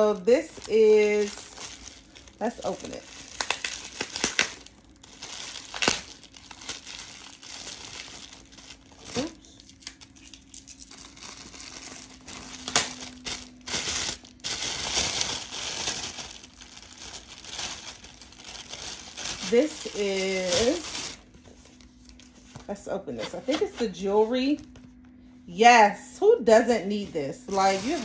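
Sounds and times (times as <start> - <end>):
plastic packaging crinkling: 0.0 - 25.0, 27.4 - 28.0.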